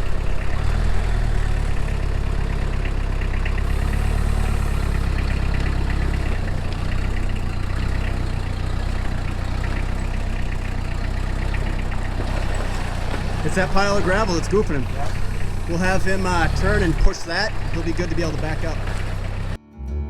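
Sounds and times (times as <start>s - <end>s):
engine idling with deep rumble: 0.0s - 19.6s.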